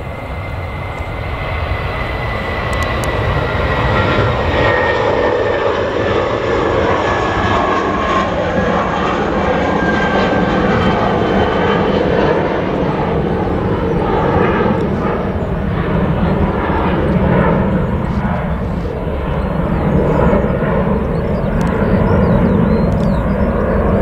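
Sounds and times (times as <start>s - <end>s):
faint engine whine: 0.0s - 24.0s
jet airliner engines running: 0.0s - 24.0s.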